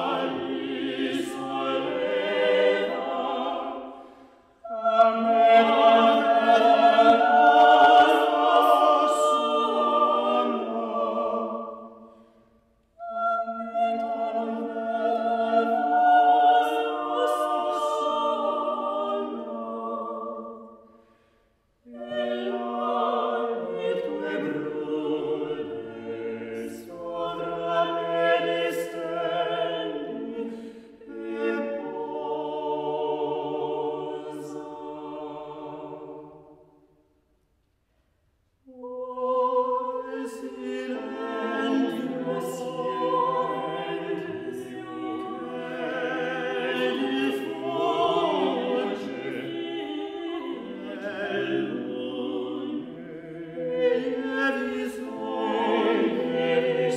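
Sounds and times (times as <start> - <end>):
unaccompanied voices singing in parts: 0.0 - 4.0, 4.6 - 12.1, 13.0 - 20.8, 21.9 - 36.5, 38.7 - 56.9.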